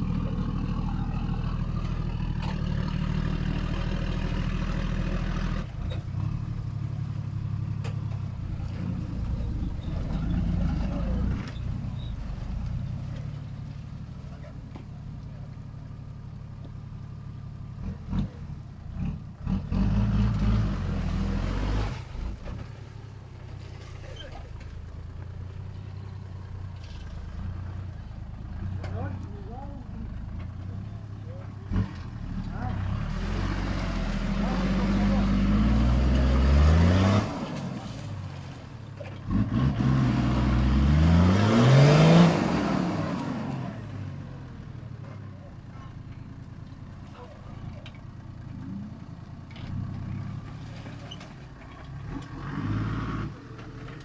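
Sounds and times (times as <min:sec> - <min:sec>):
diesel engine idling and revving: 0:00.0 - 0:54.0.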